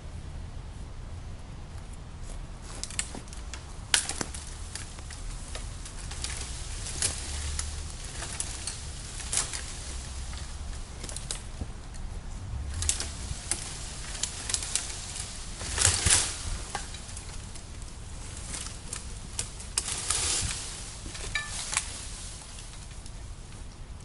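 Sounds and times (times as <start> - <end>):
branches and leaves rustling: 0.0 - 24.0
twigs snapping: 2.6 - 23.8.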